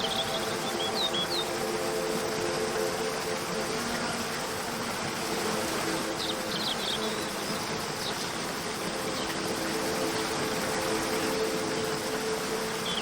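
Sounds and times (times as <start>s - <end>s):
soft background music drone: 0.0s - 13.0s
waterfall rushing: 0.0s - 13.0s.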